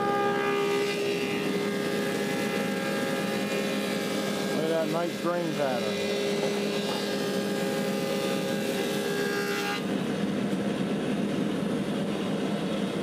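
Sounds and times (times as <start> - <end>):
planer motor hum: 0.0 - 10.7
planer cutting whine: 0.0 - 13.0.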